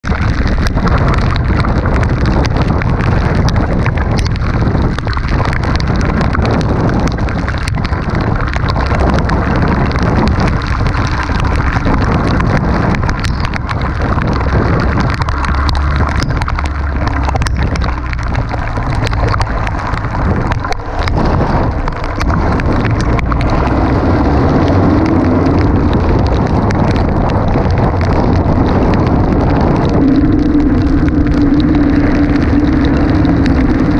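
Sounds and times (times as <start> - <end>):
heavy rain: 0.0 - 33.9
low rumble of car: 0.0 - 33.9
raindrops ticking: 0.0 - 33.9
wind buffeting microphone: 0.0 - 33.9.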